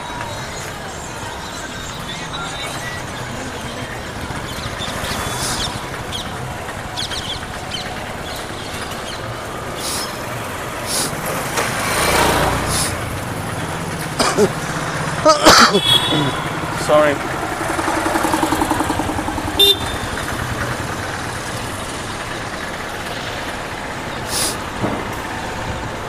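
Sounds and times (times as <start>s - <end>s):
road traffic passing: 0.0s - 26.0s
vehicle passing: 0.0s - 26.0s.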